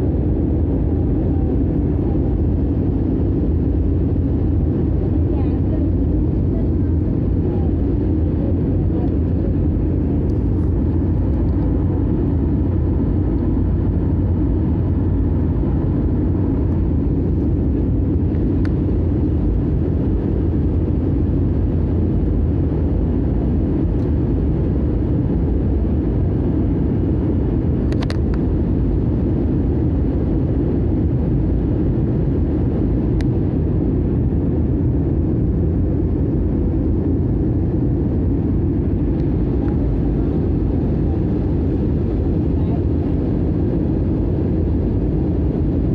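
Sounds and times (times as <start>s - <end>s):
airliner cabin rumble: 0.0s - 45.9s.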